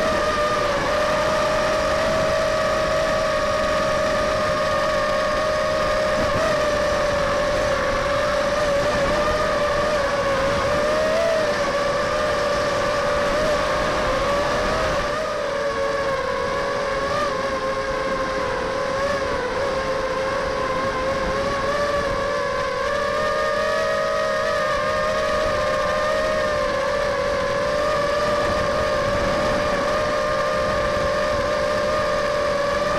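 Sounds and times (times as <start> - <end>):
quadcopter motors whining: 0.0 - 32.9.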